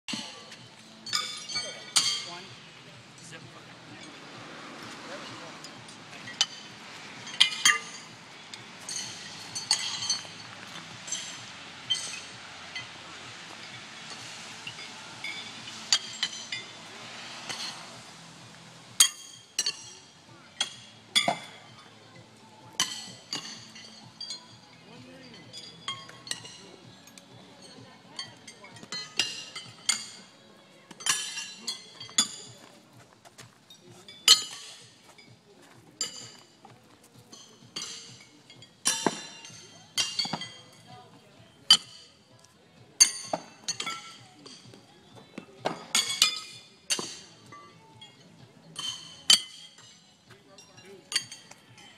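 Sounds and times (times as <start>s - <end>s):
horseshoes clanking on metal: 0.1s - 2.5s, 5.3s - 17.9s, 19.0s - 21.9s, 22.6s - 30.3s, 30.9s - 32.7s, 33.8s - 35.3s, 36.0s - 51.9s.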